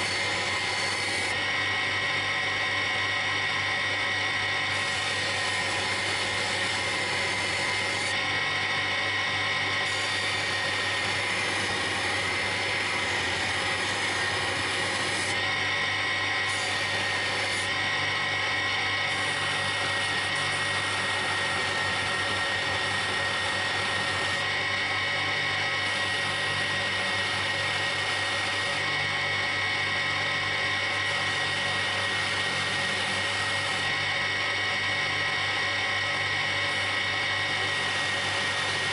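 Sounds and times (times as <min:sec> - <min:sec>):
buffing machine whine: 0:00.0 - 0:38.9.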